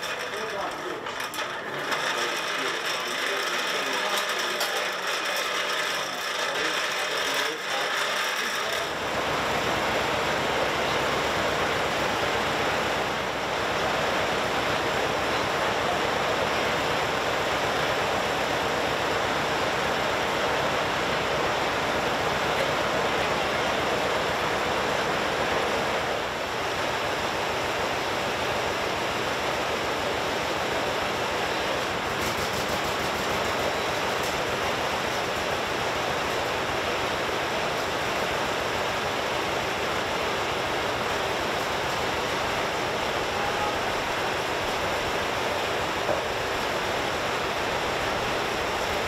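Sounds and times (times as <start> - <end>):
sawmill machine rushing noise: 0.0 - 49.0.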